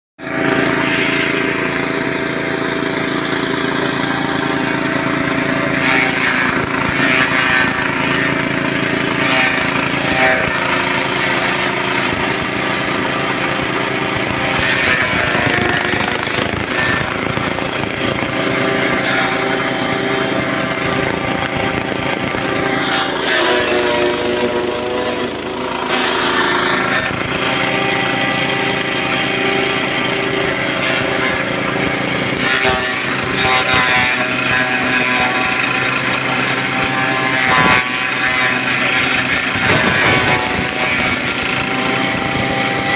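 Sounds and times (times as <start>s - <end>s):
chaff cutter chopping stalks: 0.2s - 42.9s
small engine running: 0.2s - 42.9s.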